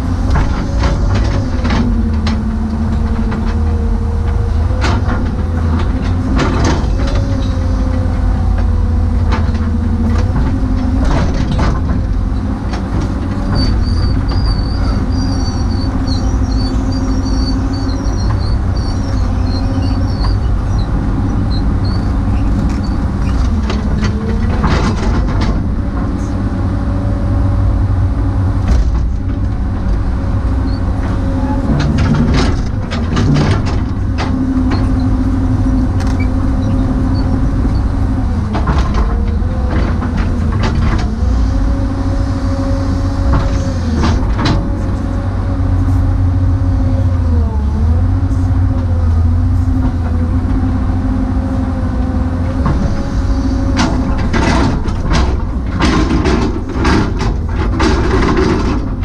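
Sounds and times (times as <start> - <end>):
excavator bucket clanking: 0.0 - 27.5, 28.3 - 59.0
excavator engine droning: 0.0 - 59.0.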